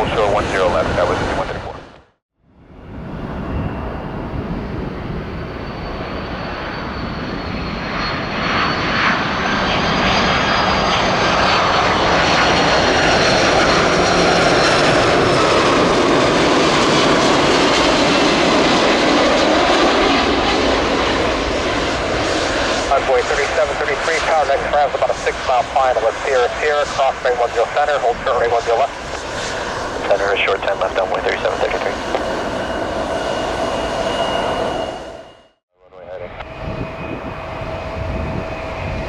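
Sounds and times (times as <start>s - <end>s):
jet airliner engines roaring: 0.0s - 2.0s, 2.6s - 39.0s.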